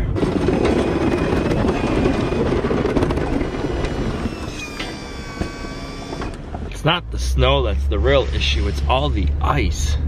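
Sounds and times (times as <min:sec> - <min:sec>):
truck engine: 0:00.0 - 0:10.0
plow blade scraping snow: 0:00.1 - 0:06.4, 0:07.2 - 0:09.3.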